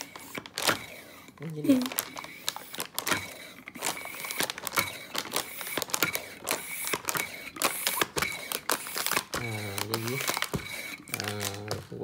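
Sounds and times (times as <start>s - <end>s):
plastic bag rustling: 0.0s - 12.0s
hand pump plastic clicks: 1.9s - 12.0s.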